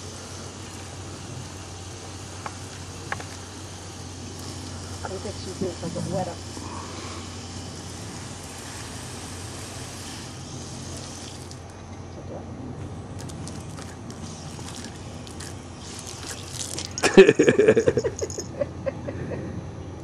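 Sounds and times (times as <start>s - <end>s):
outdoor ambience hiss: 0.0s - 20.0s.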